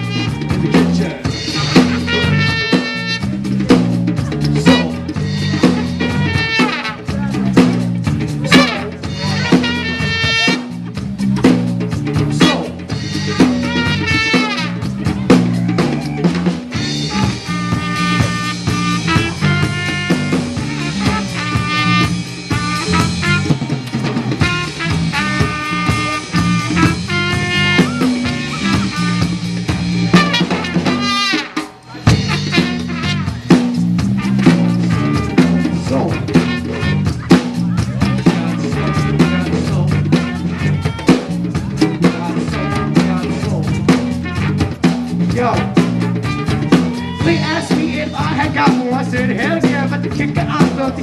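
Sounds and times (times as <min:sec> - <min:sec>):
drum kit groove: 0:00.0 - 0:51.0
lead instrument melodic phrases: 0:00.0 - 0:51.0
steady bass line: 0:00.0 - 0:51.0.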